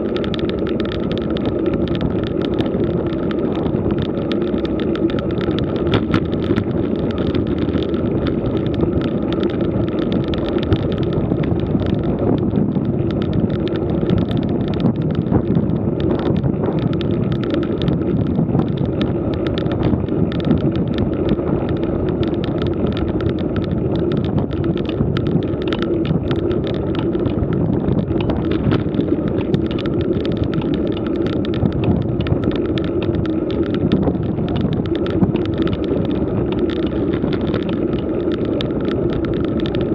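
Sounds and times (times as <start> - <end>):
bike rattles and ticks: 0.0 - 39.9
tyres on rough asphalt: 0.0 - 39.9
wind buffeting microphone: 0.0 - 39.9.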